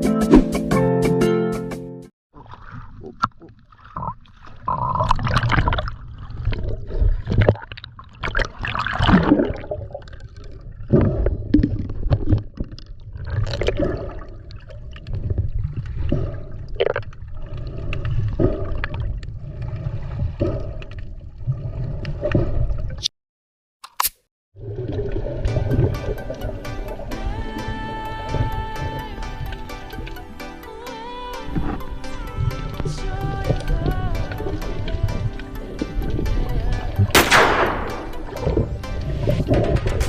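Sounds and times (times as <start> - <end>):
sea water sloshing and gurgling: 2.3 - 23.0, 24.6 - 37.2, 37.9 - 40.0.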